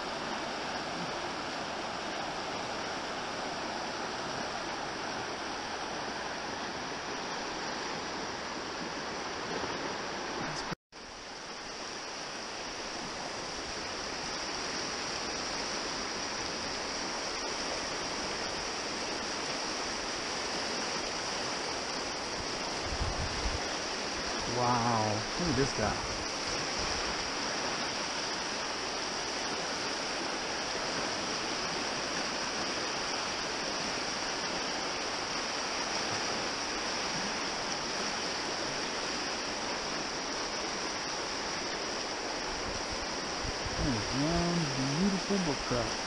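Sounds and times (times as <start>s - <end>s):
stream rushing through rapids: 0.0s - 46.0s.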